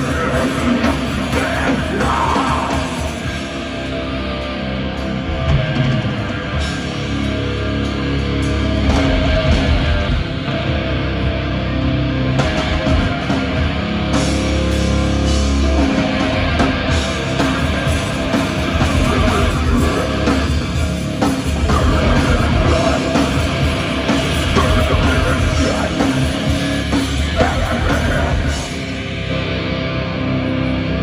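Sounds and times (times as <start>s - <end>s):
distorted electric guitars: 0.0s - 31.0s
drum kit: 0.0s - 31.0s.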